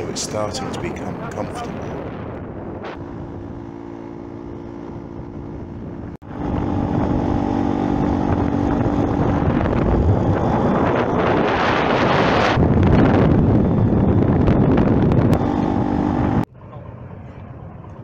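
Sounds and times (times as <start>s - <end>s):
motorbike engine cruising: 0.0s - 18.0s
wind noise on microphone: 0.0s - 18.0s.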